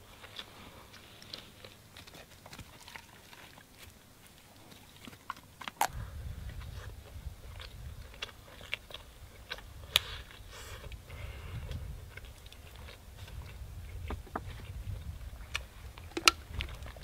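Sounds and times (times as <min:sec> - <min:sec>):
chewing with crisp crunches: 0:00.0 - 0:17.0
low steady rumble: 0:00.0 - 0:17.0.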